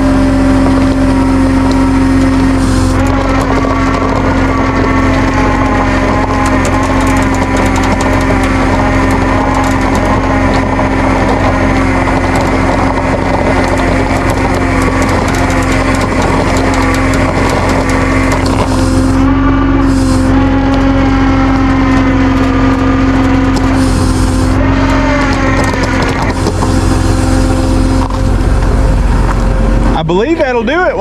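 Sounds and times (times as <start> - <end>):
truck engine droning: 0.0 - 31.0.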